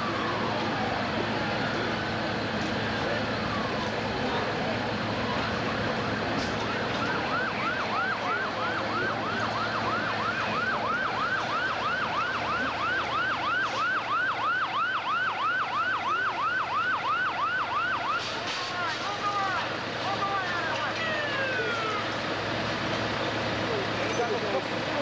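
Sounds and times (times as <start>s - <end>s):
street noise: 0.0s - 25.0s.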